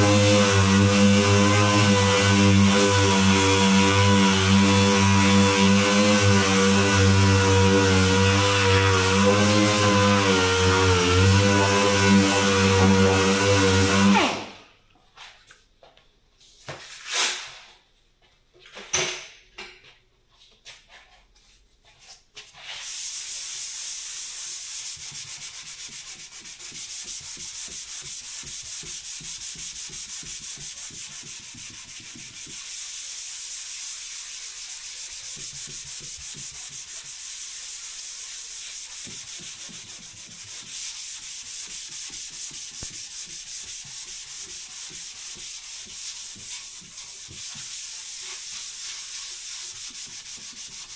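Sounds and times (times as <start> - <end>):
sanding rasp: 0.0 - 14.2, 22.8 - 50.9.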